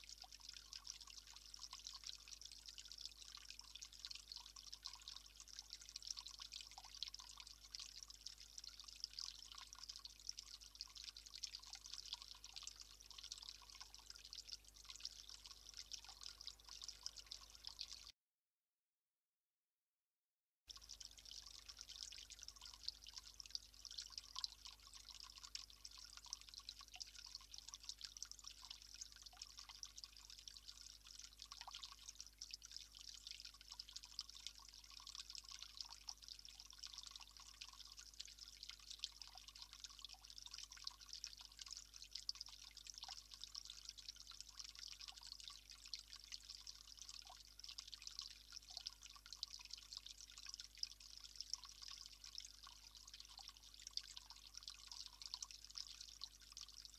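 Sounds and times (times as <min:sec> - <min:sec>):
water trickling: 0:00.0 - 0:18.1, 0:20.7 - 0:56.9
small ticks and drips: 0:00.0 - 0:18.2, 0:20.7 - 0:56.9.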